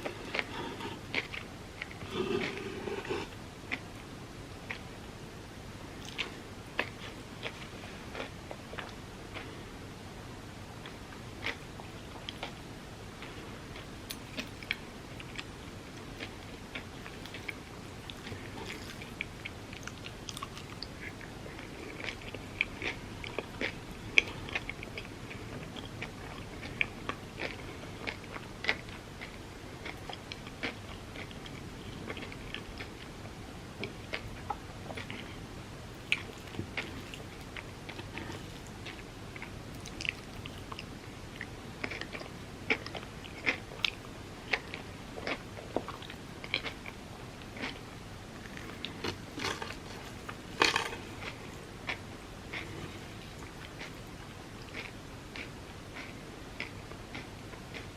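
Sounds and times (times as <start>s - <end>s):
chewing and biting: 0.0s - 3.9s, 13.2s - 33.1s, 33.8s - 35.4s, 36.1s - 47.8s, 48.4s - 57.9s.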